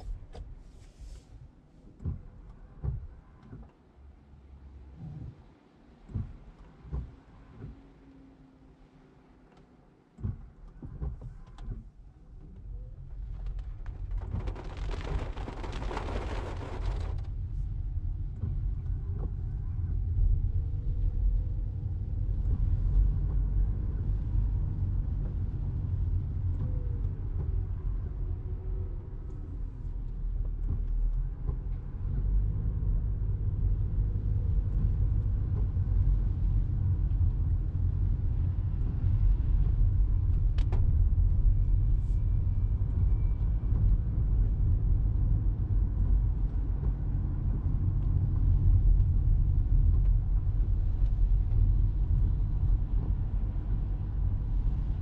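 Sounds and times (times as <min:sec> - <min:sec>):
road noise inside car cabin: 0:00.0 - 0:55.0.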